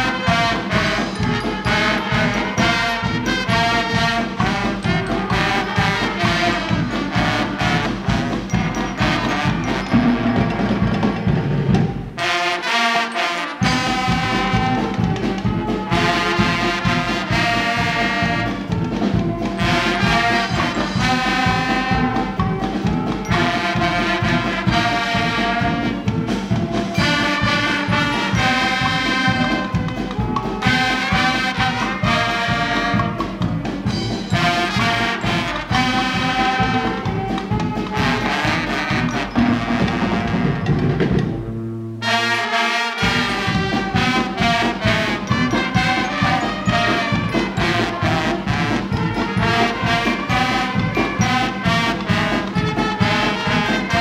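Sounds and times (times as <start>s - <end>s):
steady drum beat: 0.0s - 12.8s, 13.6s - 41.6s, 42.9s - 54.0s
brass band playing loudly: 0.0s - 54.0s.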